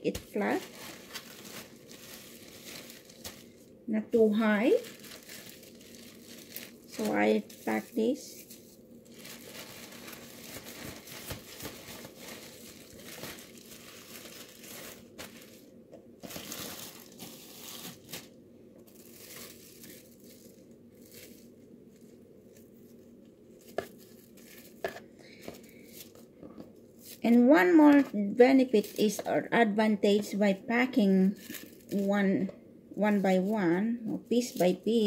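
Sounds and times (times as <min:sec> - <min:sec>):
plastic film crinkling: 0:00.0 - 0:26.3, 0:27.0 - 0:29.5, 0:31.0 - 0:32.2.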